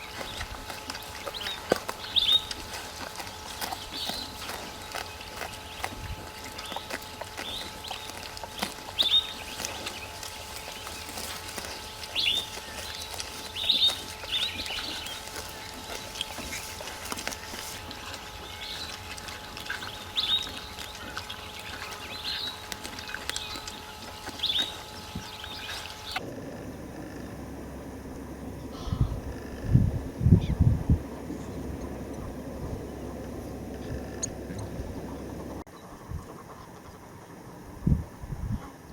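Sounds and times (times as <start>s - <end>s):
birds chirping: 0.0s - 35.6s
faint steady hum: 0.0s - 38.9s.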